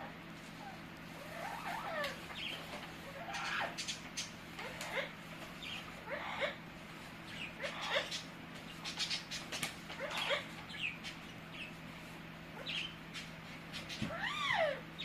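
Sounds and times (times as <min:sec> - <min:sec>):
parrot squawking and chirping: 0:00.6 - 0:11.8, 0:12.6 - 0:15.0.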